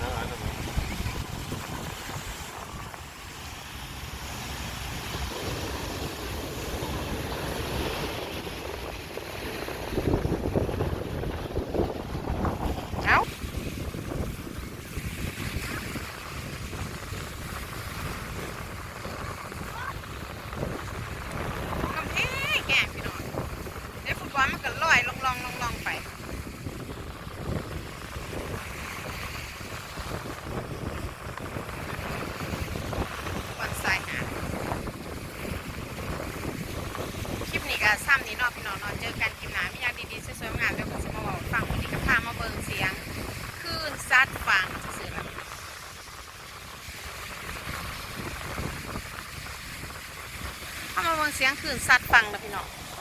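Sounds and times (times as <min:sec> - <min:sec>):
sea waves breaking on shore: 0:00.0 - 0:53.0
wind buffeting microphone: 0:00.0 - 0:53.0.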